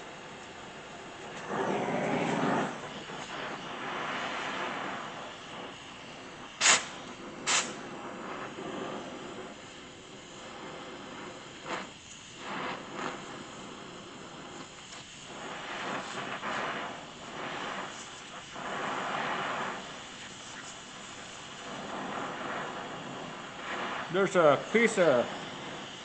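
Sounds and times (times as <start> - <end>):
gas torch hissing: 0.0 - 26.0.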